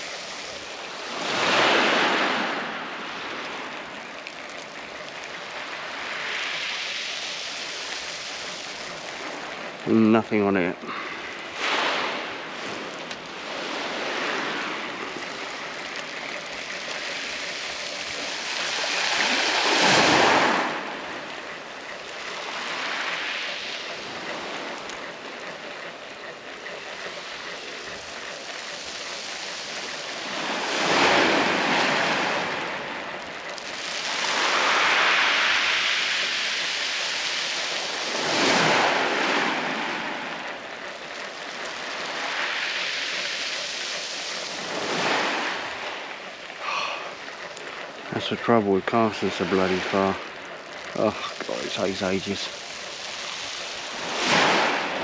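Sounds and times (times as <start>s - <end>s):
water washing over pebbles: 0.0s - 25.3s, 27.0s - 55.0s
small waves breaking on shingle: 0.0s - 55.0s.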